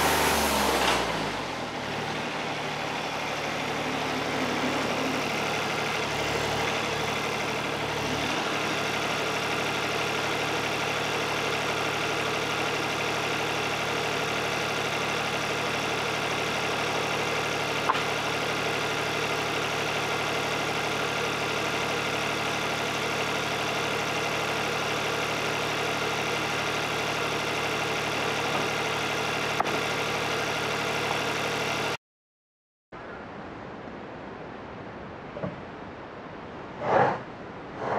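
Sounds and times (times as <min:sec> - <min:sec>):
sawmill engine running: 0:00.0 - 0:32.0.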